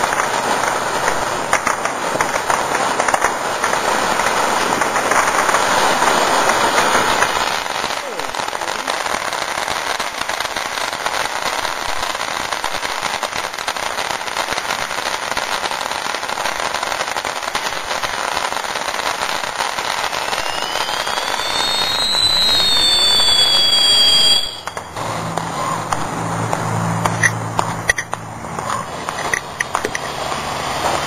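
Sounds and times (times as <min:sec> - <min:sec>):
firework whistles: 0:00.0 - 0:26.1
fireworks crackling: 0:00.0 - 0:31.0.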